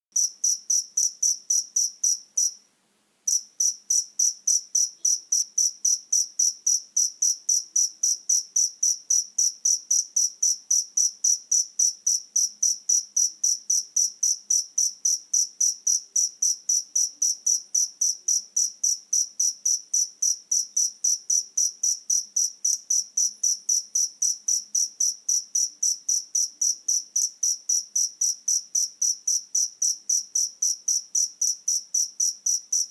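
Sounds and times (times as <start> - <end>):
cricket chirping: 0.2 - 32.9.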